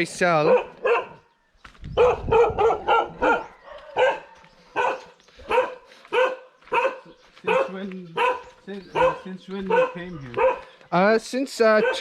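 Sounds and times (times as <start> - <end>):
dogs barking: 0.3 - 1.4, 2.0 - 10.9, 11.6 - 12.0.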